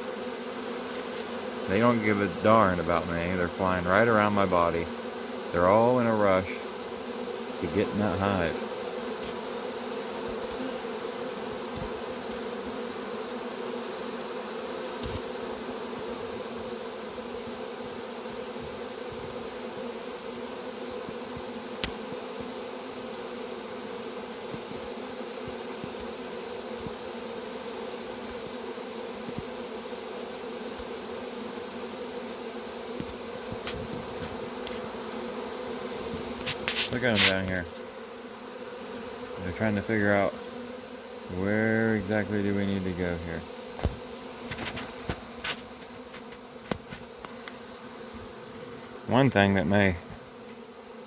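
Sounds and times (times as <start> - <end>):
bee swarm humming: 0.0 - 51.0.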